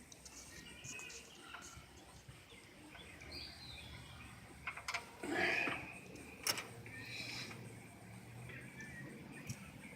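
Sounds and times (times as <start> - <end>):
distant bird chirps: 0.0 - 9.9.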